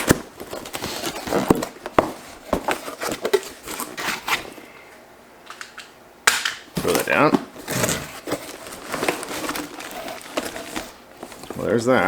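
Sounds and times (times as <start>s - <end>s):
packaging crinkling: 0.0s - 4.6s, 6.8s - 12.0s.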